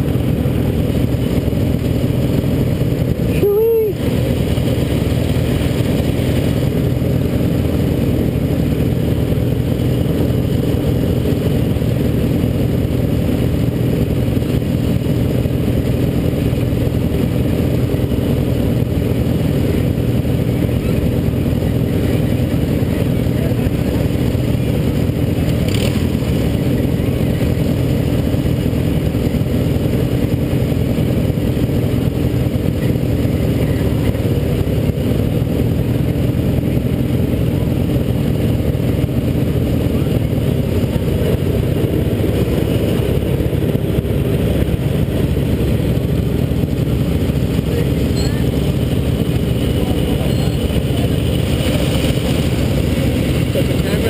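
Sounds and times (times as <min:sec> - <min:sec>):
lawnmower engines idling: 0:00.0 - 0:54.0.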